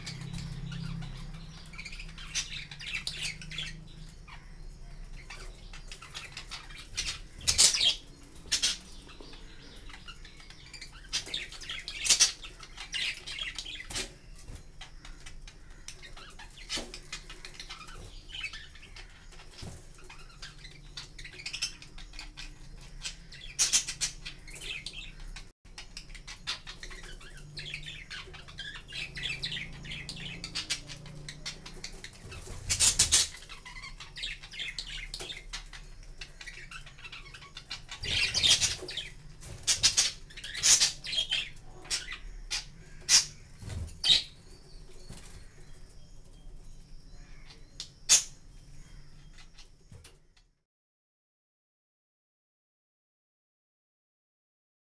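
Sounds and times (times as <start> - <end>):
budgerigars chirping and squawking: 0.0 - 50.0.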